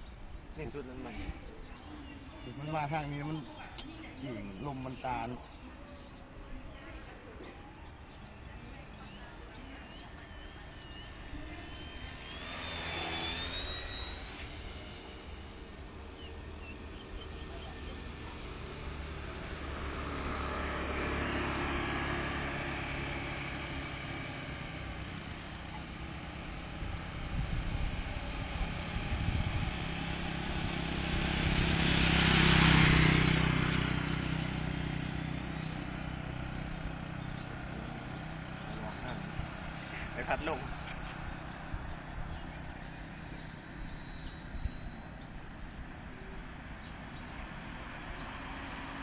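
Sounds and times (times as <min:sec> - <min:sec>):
model plane motor whine: 0:07.5 - 0:49.0.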